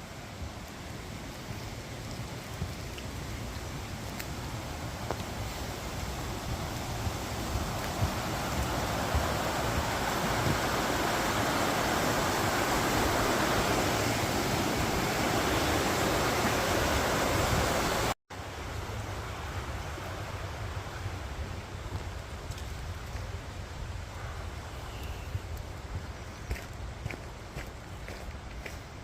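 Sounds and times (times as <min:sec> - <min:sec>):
rushing water: 0:00.0 - 0:29.0.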